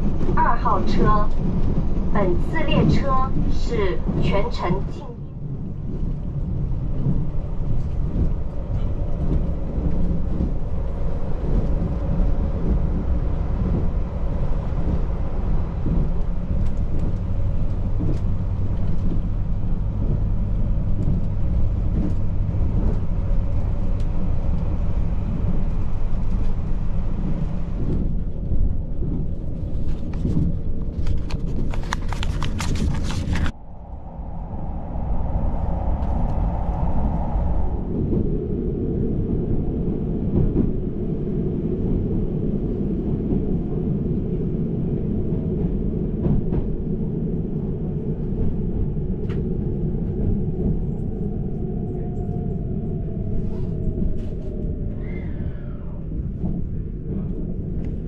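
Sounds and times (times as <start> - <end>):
train rumbling from inside: 0.0 - 58.0.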